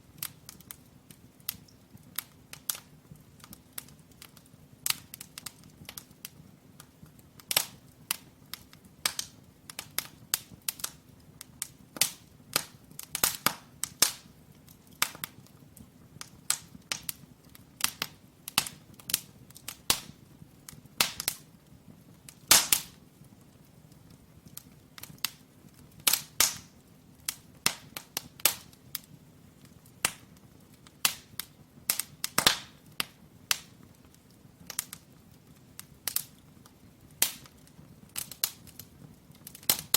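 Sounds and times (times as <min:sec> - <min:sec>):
firewood crackling and popping: 0:00.0 - 0:39.9
steady hush of fire: 0:00.0 - 0:39.9.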